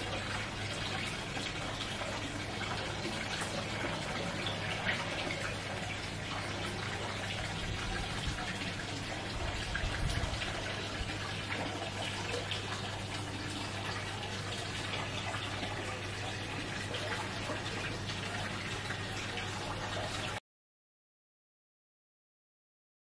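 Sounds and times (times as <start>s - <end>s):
low steady hum: 0.0s - 20.4s
water trickling and splashing: 0.0s - 20.4s.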